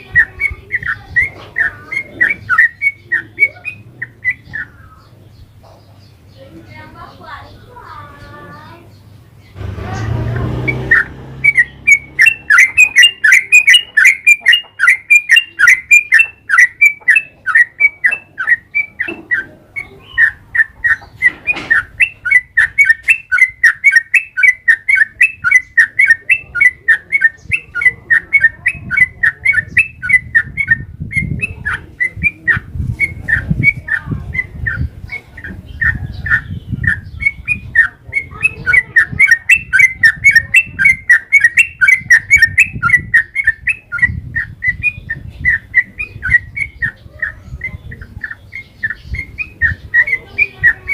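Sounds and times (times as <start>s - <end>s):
bulbul chirping: 9.0s - 50.9s.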